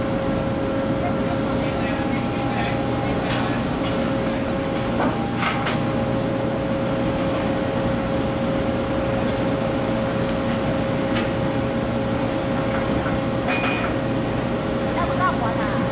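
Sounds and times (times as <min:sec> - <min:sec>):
heavy machinery droning: 0:00.0 - 0:15.9.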